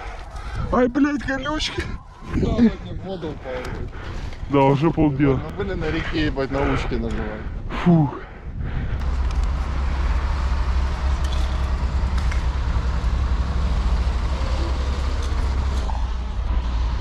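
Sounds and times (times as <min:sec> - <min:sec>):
road traffic noise: 0:00.0 - 0:00.8, 0:03.0 - 0:17.0
bus engine rumble: 0:00.0 - 0:17.0.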